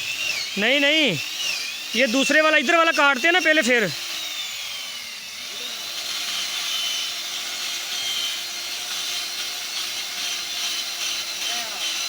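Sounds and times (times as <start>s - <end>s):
chainsaw sawing wood: 0.0s - 12.0s.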